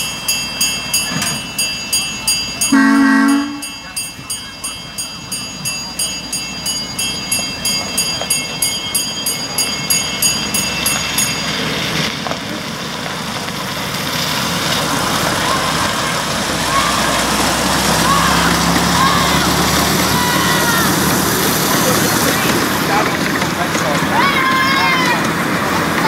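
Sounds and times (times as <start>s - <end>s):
locomotive bell ringing rapidly: 0.0s - 12.9s, 15.1s - 26.0s
train running on track: 0.0s - 26.0s.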